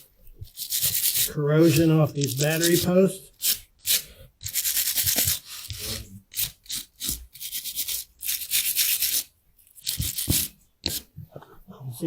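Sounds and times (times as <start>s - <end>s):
wire brush scrubbing metal: 0.5s - 11.1s.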